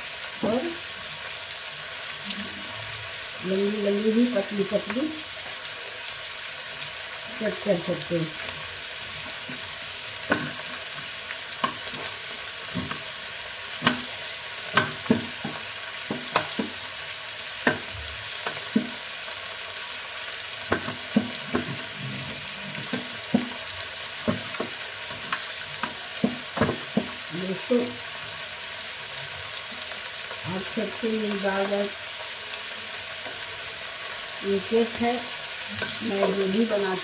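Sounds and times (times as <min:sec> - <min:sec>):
potatoes sizzling in oil: 0:00.0 - 0:37.0.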